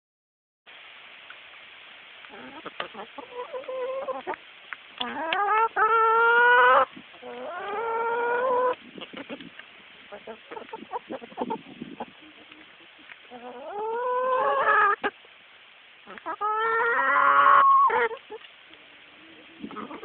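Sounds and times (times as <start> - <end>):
chickens calling: 2.2 - 15.3, 16.0 - 20.0
chicken clucks: 2.3 - 4.4, 5.0 - 15.2, 16.0 - 20.0.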